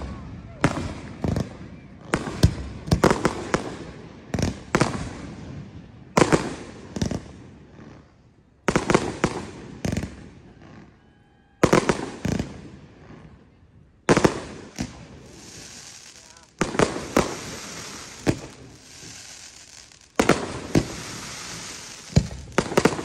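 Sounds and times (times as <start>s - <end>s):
fireworks booming with echo: 0.0s - 10.9s, 11.6s - 13.4s, 14.0s - 23.0s.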